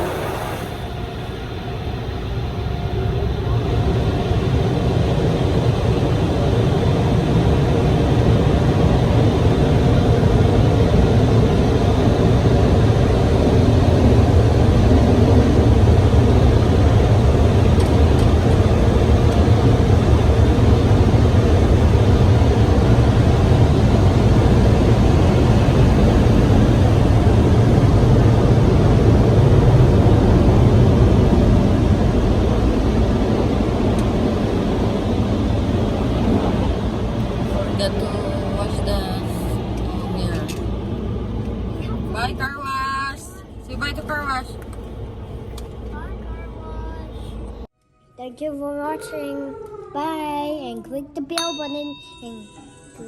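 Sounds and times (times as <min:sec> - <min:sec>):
car wash machinery rushing: 0:00.0 - 0:47.7.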